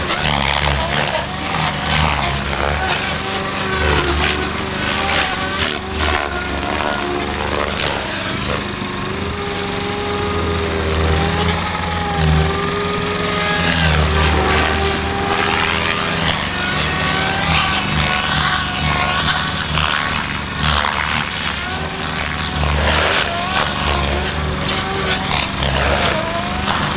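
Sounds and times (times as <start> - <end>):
model helicopter motor and rotor whine: 0.0 - 26.9
rotor blades swishing: 0.0 - 26.9.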